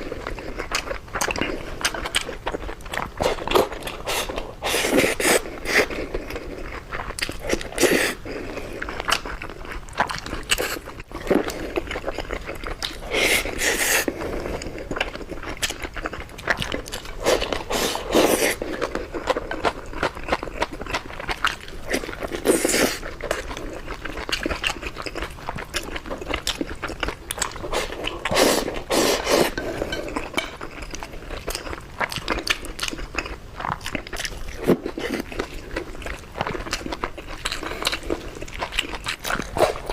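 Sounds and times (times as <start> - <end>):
wet chewing and mouth noises: 0.0 - 39.9.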